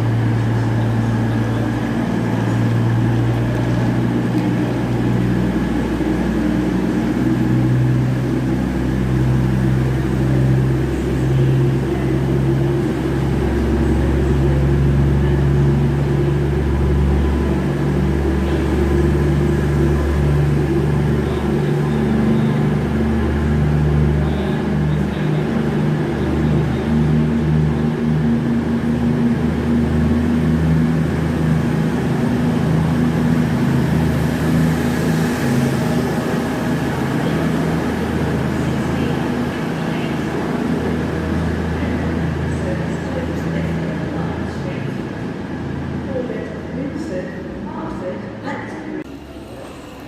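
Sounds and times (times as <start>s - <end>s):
train engine humming: 0.0s - 50.0s.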